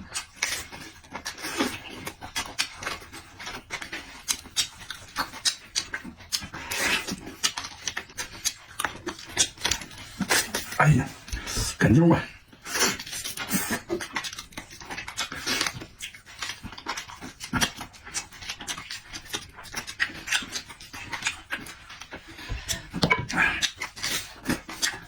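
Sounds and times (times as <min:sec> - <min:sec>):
person chewing and lip-smacking: 0:00.0 - 0:25.0.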